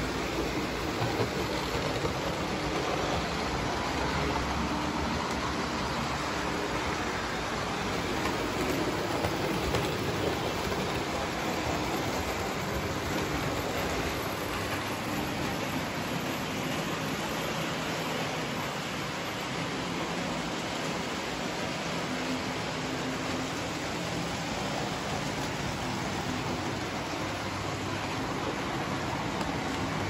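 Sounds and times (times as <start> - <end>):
model trains running on track: 0.0 - 30.0.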